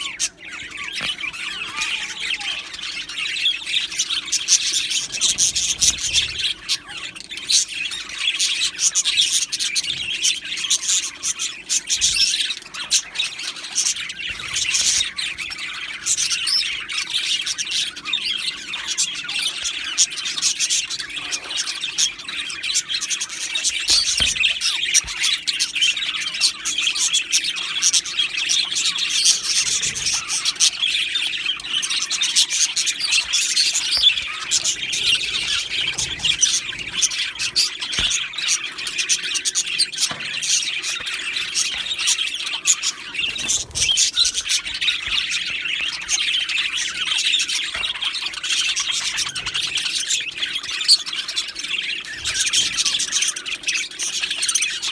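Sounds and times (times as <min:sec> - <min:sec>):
bird squawks: 0:00.0 - 0:54.9
budgerigars chirping: 0:00.0 - 0:54.9.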